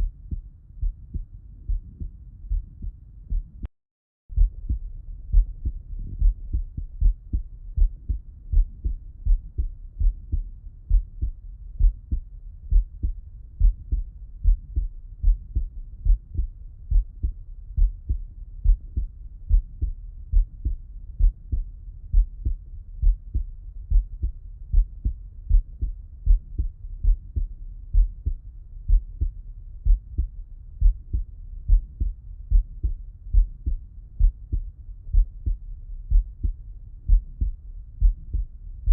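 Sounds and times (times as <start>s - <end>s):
heartbeat through stethoscope: 0.0s - 3.7s, 4.3s - 38.9s.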